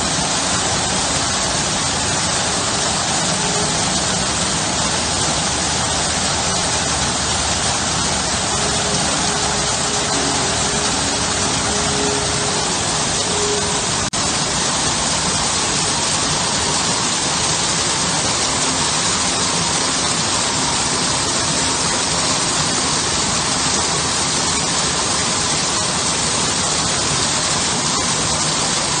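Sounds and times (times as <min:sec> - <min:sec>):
water pouring over rocks: 0:00.0 - 0:29.0.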